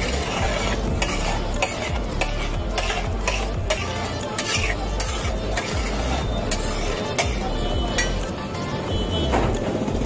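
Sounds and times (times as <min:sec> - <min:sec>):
frying sizzle: 0:00.0 - 0:08.3
metal spatula scraping griddle: 0:00.0 - 0:08.4.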